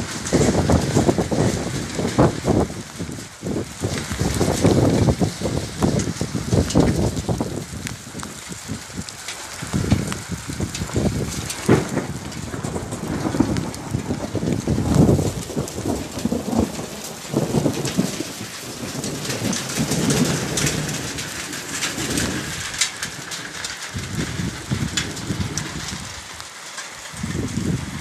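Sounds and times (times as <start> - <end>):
rain hissing: 0.0 - 28.0
raindrops ticking: 0.0 - 28.0
wind buffeting microphone: 0.0 - 28.0.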